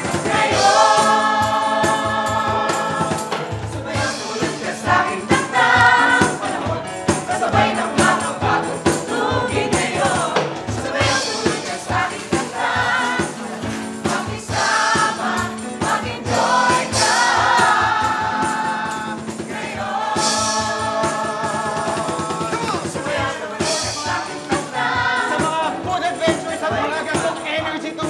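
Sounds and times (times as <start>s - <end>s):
congas and bongos beat: 0.0s - 28.0s
group of voices singing: 0.0s - 28.0s
tambourine: 0.0s - 28.0s.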